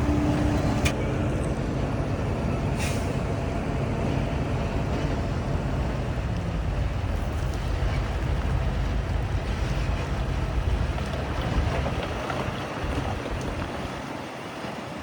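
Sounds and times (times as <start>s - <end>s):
heavy diesel machinery rumbling: 0.0s - 15.0s.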